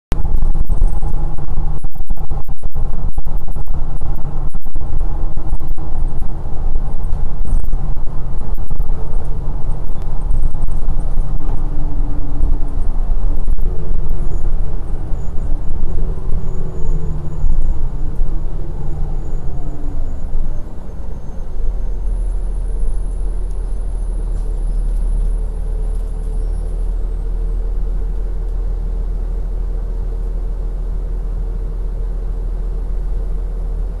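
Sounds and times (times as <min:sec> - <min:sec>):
engine drone: 0:00.1 - 0:34.0
vehicle cabin rumble: 0:00.1 - 0:34.0.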